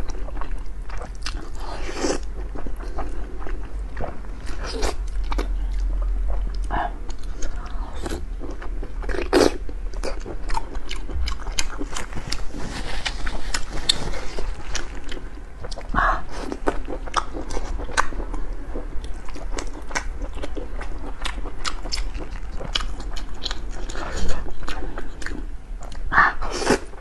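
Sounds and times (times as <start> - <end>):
wet chewing: 0.0 - 26.9.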